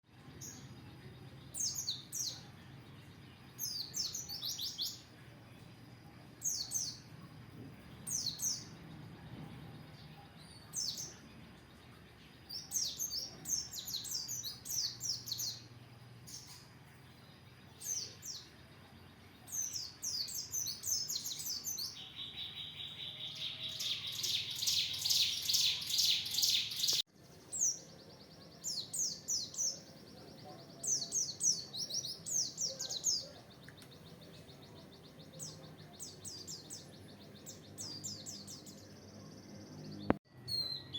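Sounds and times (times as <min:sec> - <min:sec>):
bird chirping song: 0:00.1 - 0:40.9.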